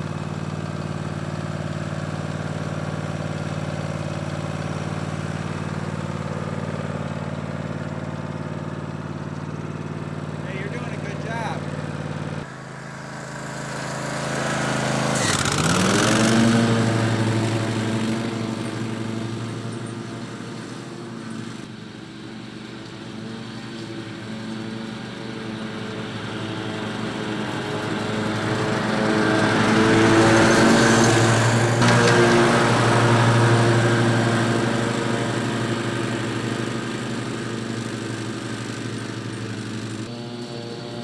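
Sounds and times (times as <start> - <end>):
riding lawn mower engine: 0.0 - 41.0.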